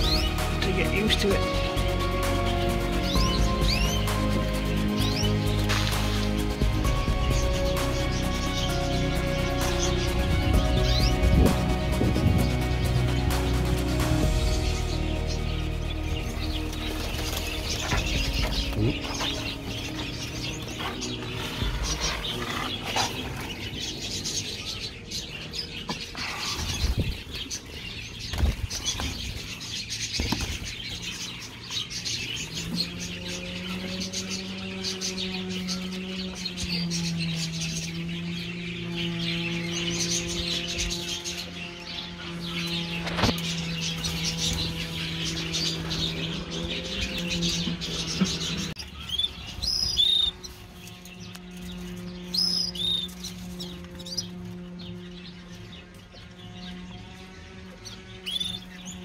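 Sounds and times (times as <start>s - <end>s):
birds chirping and chattering: 0.0s - 59.0s
steady low hum: 0.0s - 59.0s.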